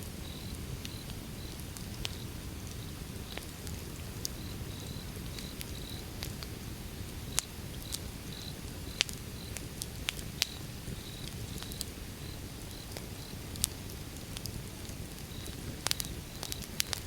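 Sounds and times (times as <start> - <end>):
low rumble of flame: 0.0 - 17.0
wood crackling and popping: 0.2 - 17.0.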